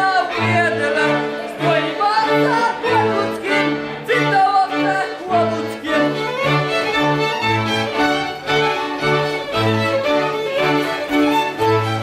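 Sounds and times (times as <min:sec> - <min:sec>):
fiddles playing quick melody: 0:00.0 - 0:12.0.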